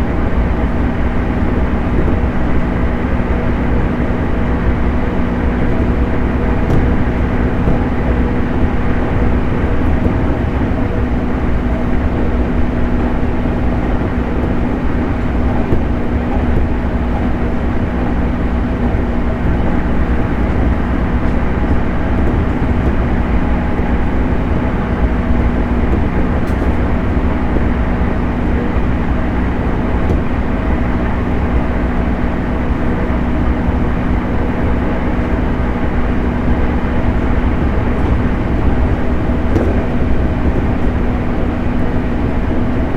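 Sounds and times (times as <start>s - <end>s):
steady low hum: 0.0s - 42.9s
train wheels rumbling on rail: 0.0s - 42.9s.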